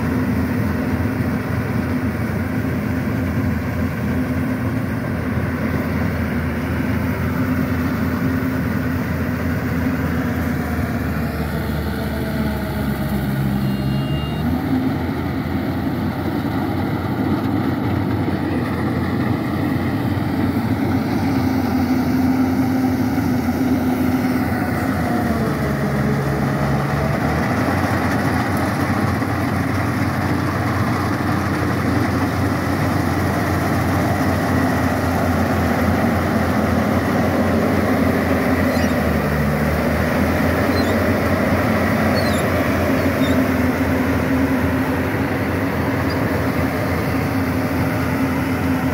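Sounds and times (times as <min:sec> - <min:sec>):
diesel engine running under load: 0:00.0 - 0:48.9.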